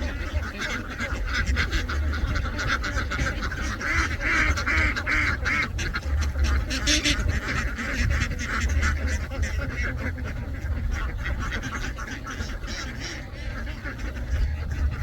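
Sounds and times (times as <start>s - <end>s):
ducks quacking: 0.0s - 15.0s
steady low rumble: 0.0s - 15.0s.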